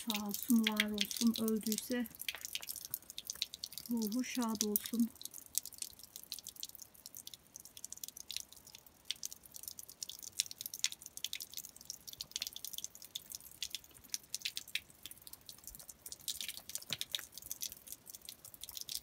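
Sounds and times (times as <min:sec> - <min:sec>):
fountain water splashing into basin: 0:00.0 - 0:19.0.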